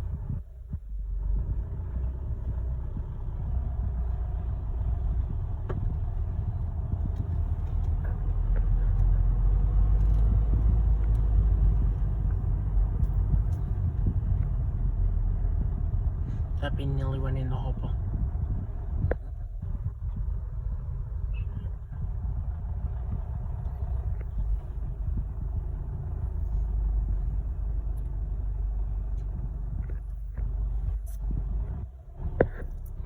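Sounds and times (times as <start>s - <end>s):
garbage truck engine rumbling: 0.0s - 33.0s.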